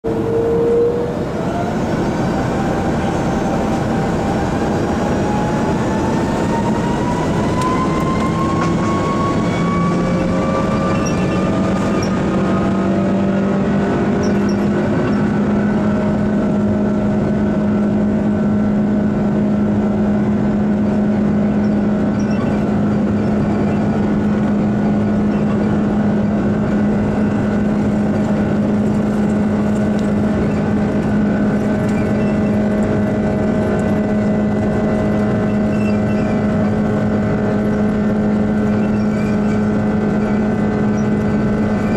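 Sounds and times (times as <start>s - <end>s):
jet engine whine in cabin: 0.0s - 41.9s.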